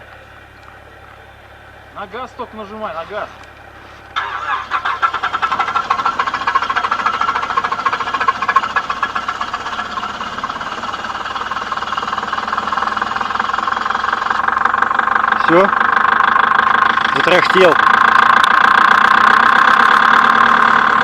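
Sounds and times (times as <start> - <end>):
diesel engine clattering: 0.0 - 21.0.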